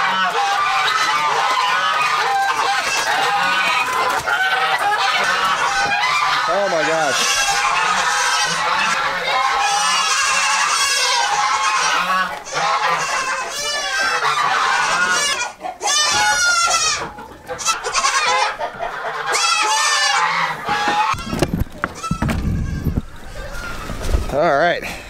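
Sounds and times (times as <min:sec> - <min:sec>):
chickens squawking and clucking: 0:00.0 - 0:24.8.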